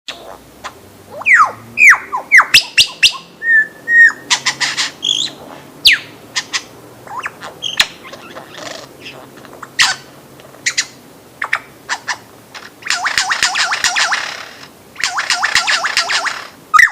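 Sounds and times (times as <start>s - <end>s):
lyrebird singing: 0.1s - 16.9s.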